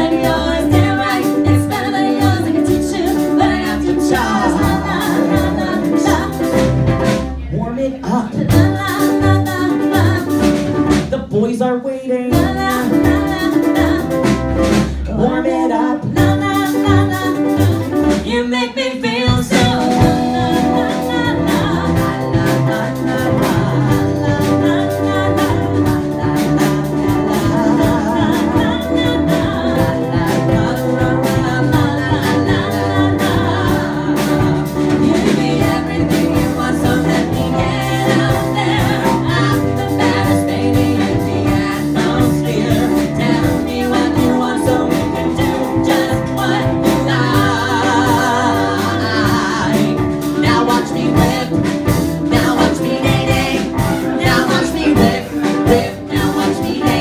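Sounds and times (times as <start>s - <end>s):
bowed upright bass: 0.0s - 11.4s, 12.3s - 18.5s, 19.3s - 57.0s
man and woman singing: 0.0s - 57.0s.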